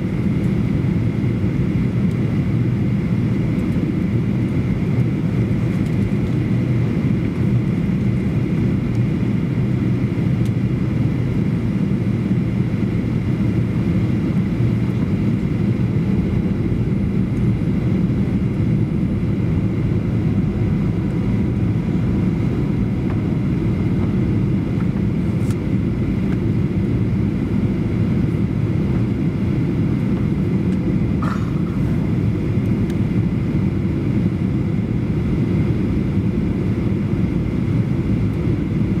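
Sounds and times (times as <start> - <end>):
low drone of jet engines: 0.0 - 39.0.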